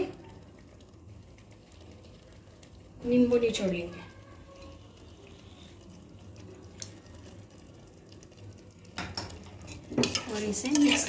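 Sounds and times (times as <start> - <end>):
faint trickle of juice: 0.0 - 11.0.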